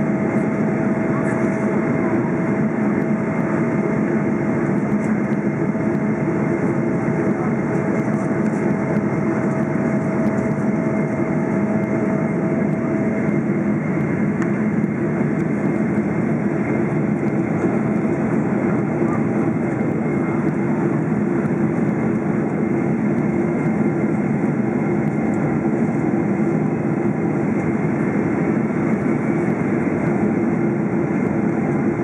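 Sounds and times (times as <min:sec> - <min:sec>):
airplane cabin roar: 0:00.0 - 0:32.0.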